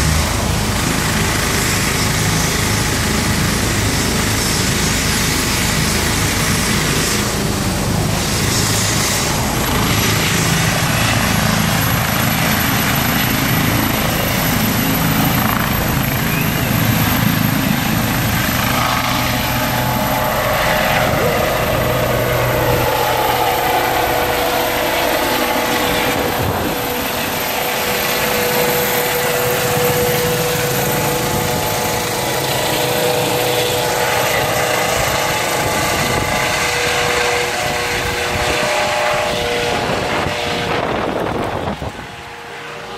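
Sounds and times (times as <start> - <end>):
helicopter turbine and rotor: 0.0 - 42.9
high turbine whine: 0.0 - 42.9.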